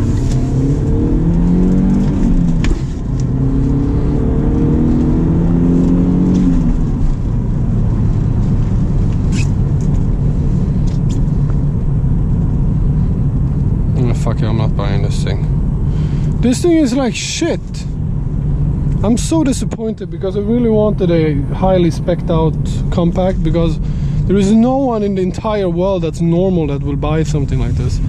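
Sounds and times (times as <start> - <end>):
car engine accelerating: 0.0 - 28.0
road rumble: 0.0 - 28.0.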